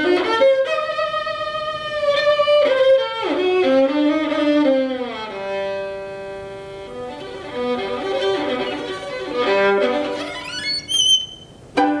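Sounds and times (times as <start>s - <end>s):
solo violin playing: 0.0s - 12.0s.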